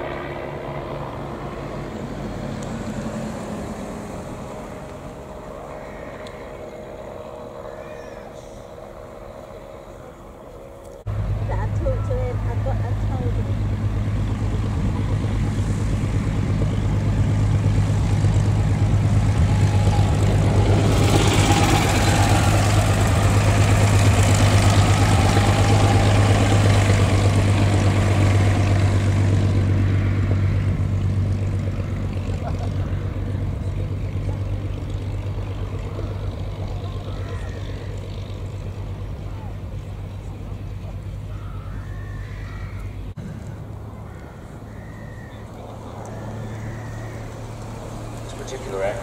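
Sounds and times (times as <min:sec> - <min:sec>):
propeller plane engines droning: 0:00.0 - 0:49.0.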